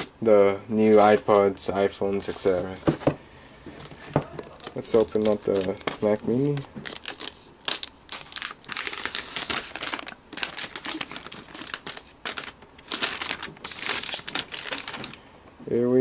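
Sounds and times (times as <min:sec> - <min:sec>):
plastic packaging crinkling: 0:00.8 - 0:03.1, 0:03.7 - 0:15.3.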